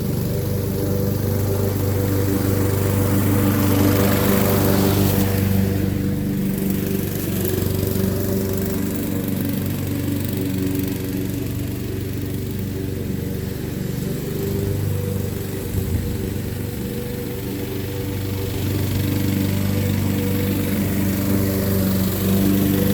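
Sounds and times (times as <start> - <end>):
lawn mower cutting grass: 0.0 - 22.9.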